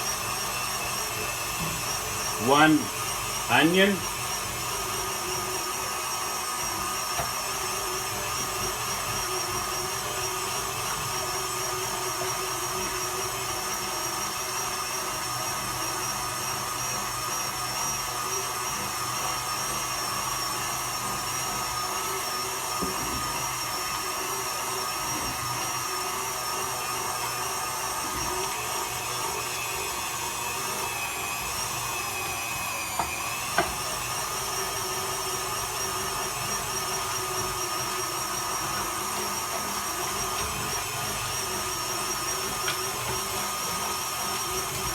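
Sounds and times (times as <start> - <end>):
meat grinder motor whining: 0.0 - 44.9.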